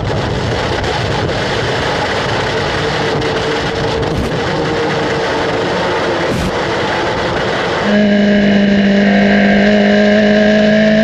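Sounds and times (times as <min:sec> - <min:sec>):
racing car engine at speed: 0:00.0 - 0:11.0
road noise: 0:00.0 - 0:11.0
wind noise: 0:00.0 - 0:11.0.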